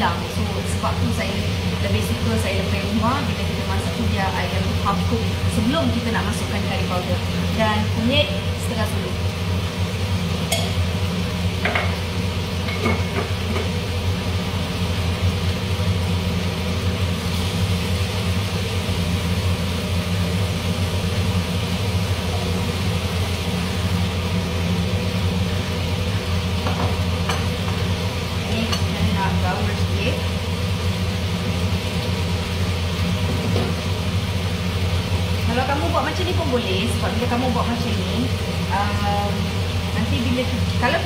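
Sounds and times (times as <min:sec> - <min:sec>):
range hood fan humming: 0:00.0 - 0:41.0.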